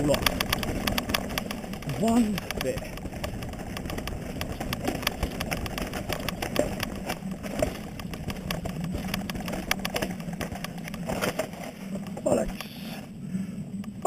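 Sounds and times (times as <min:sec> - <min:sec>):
bike rattling over rocks: 0:00.0 - 0:13.2
steady low hum: 0:00.0 - 0:14.0.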